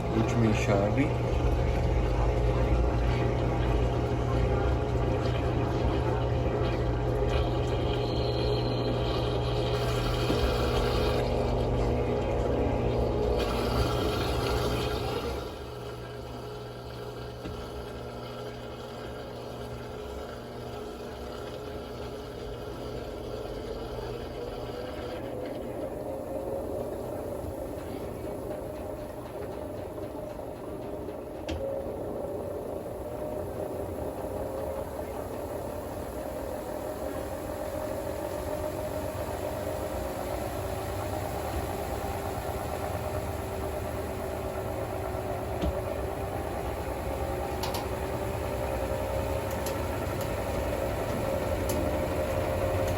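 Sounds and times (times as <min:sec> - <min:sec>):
washing machine motor humming: 0:00.0 - 0:52.9
water inflow: 0:00.0 - 0:52.9.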